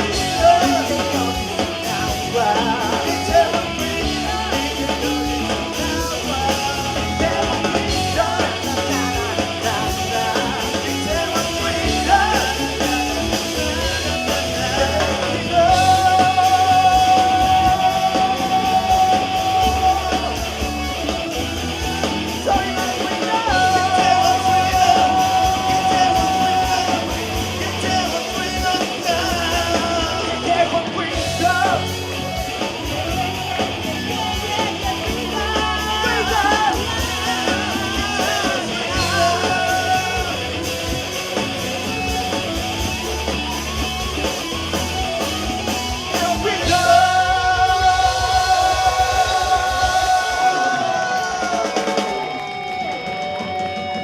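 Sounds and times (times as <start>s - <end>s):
person singing: 0.0s - 53.6s
live band playing pop song: 0.0s - 54.0s.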